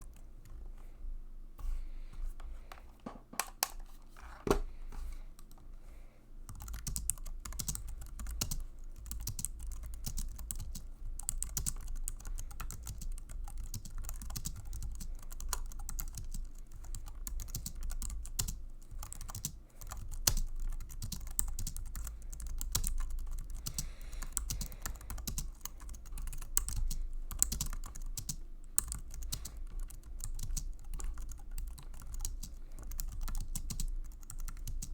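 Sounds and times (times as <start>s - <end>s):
typing on a keyboard: 6.5s - 34.9s.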